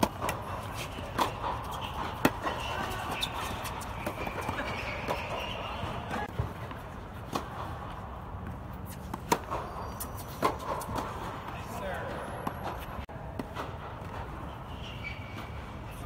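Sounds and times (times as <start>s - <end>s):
tennis balls struck by rackets: 0.0s - 14.5s
tennis balls bouncing on court: 0.0s - 15.7s.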